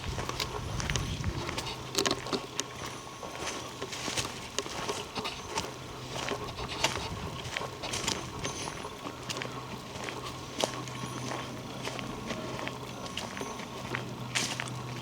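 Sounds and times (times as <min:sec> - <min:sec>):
footsteps on forest trail: 0:00.0 - 0:15.0.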